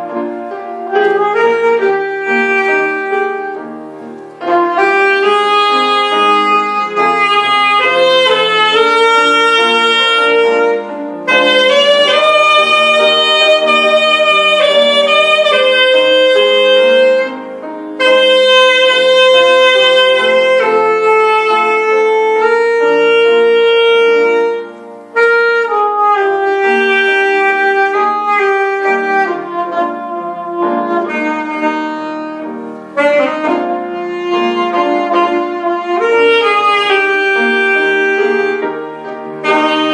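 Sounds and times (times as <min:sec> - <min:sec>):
musical accompaniment: 0:00.0 - 0:39.9
saxophone slow melody: 0:00.0 - 0:39.9.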